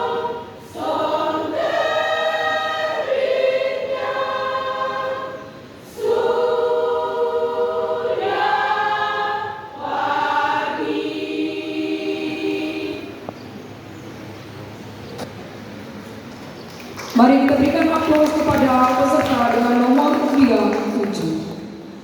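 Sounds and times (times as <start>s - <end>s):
women's choir singing: 0.0s - 13.7s, 17.2s - 22.0s.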